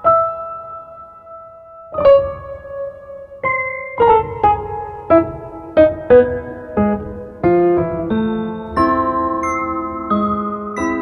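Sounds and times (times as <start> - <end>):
electric piano slow notes: 0.0 - 11.0.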